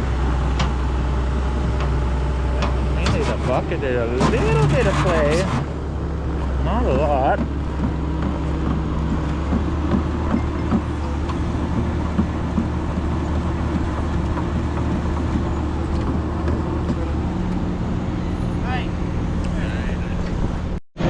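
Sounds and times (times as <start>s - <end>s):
excavator diesel engine running: 0.0s - 20.8s.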